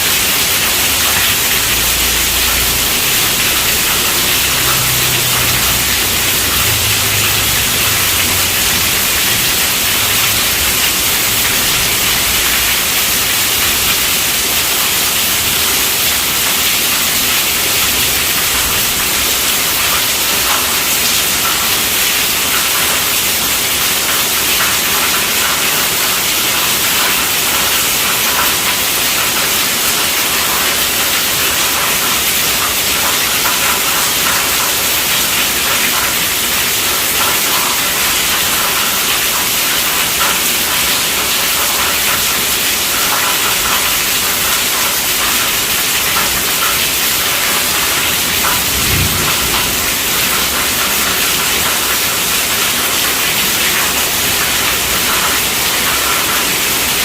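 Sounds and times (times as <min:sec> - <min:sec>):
heavy rain on tent roof: 0:00.0 - 0:57.0.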